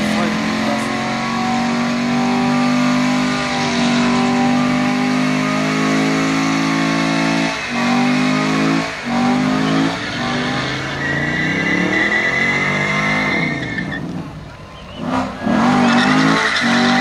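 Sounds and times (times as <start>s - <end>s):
car engine at high revs: 0.0s - 17.0s
tyres spinning: 0.0s - 17.0s.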